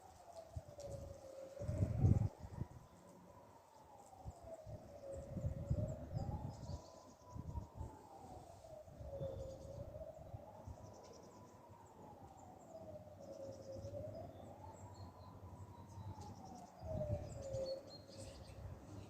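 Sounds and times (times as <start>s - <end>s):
distant wailing sirens: 0.0s - 19.0s.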